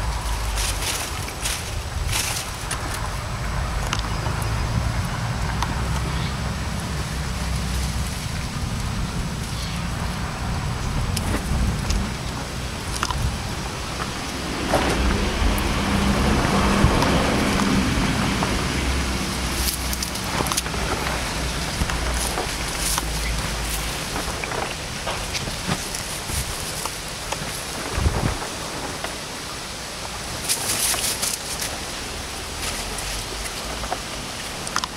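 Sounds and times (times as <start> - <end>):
cat chewing and crunching twigs: 0.0 - 34.9.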